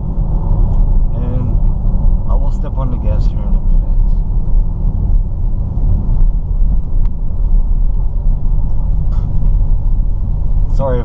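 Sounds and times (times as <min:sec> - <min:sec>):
car engine rumble in cabin: 0:00.0 - 0:11.0
road noise: 0:00.0 - 0:11.0.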